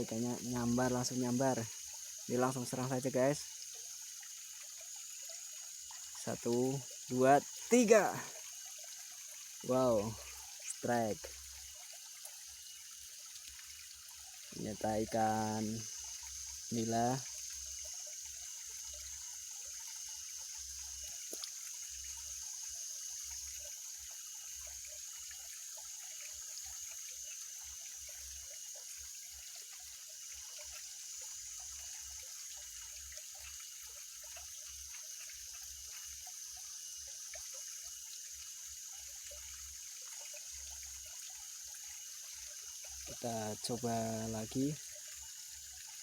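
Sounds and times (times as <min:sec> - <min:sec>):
steady high-pitched hiss: 0:00.0 - 0:11.8, 0:12.8 - 0:46.0
small splashes and drips: 0:00.0 - 0:46.0
water trickling: 0:00.0 - 0:46.0.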